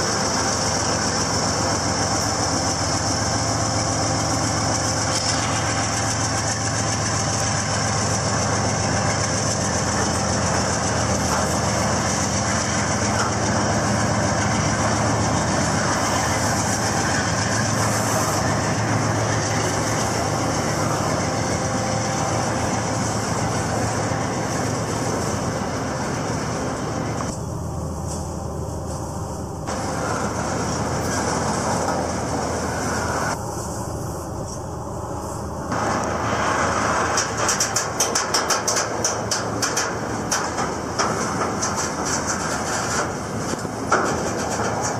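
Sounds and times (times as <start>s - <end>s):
train cars rolling over rails: 0.0s - 27.4s, 29.7s - 33.4s, 35.6s - 44.9s
diesel locomotives running: 0.0s - 44.9s.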